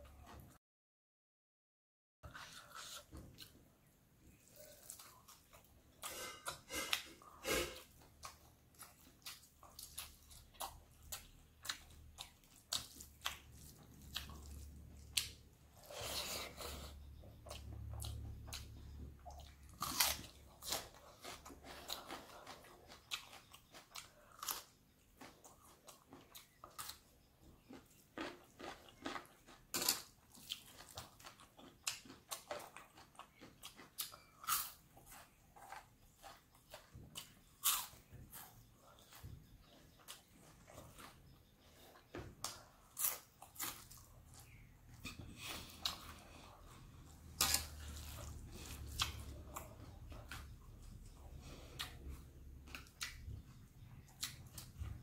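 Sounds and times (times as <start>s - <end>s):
chewing and crunching food: 2.2s - 55.0s.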